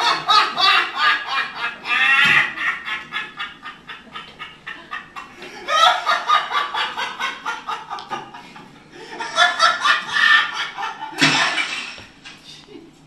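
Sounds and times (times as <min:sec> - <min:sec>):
people laughing: 0:00.0 - 0:11.8.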